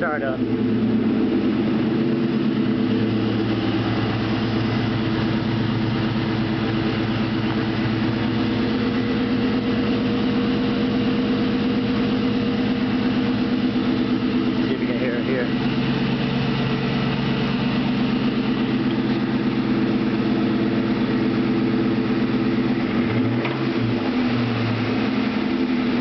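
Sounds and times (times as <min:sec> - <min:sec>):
car engine idling with knock: 0:00.0 - 0:26.0.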